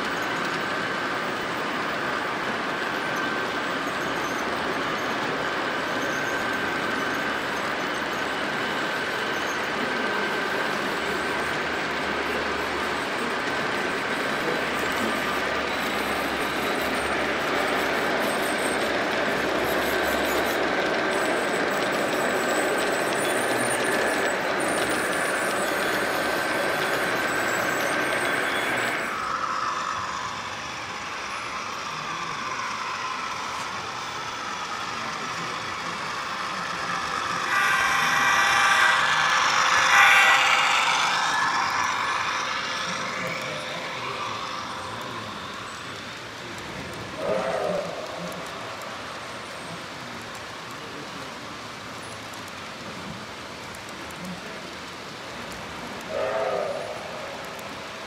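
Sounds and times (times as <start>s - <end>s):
model trains rumbling on track: 0.0s - 58.0s
train rattling on steel trestle: 0.0s - 58.0s.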